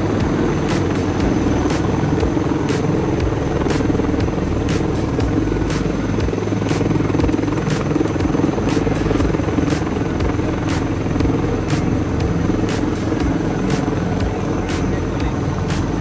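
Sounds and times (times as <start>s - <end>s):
helicopter flying over: 0.0s - 16.0s
music with a beat: 0.0s - 16.0s.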